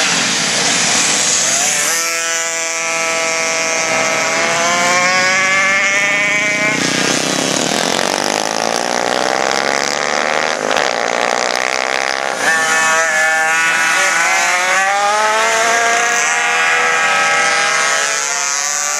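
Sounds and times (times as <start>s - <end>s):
small two-stroke engines buzzing: 0.0s - 18.9s.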